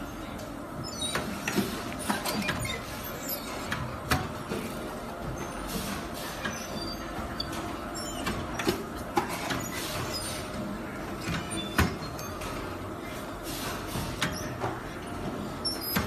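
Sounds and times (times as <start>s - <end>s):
workshop machinery noise: 0.0s - 16.0s.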